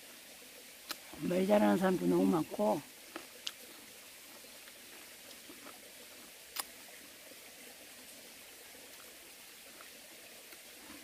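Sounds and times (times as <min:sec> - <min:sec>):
stream hissing: 0:00.0 - 0:11.0.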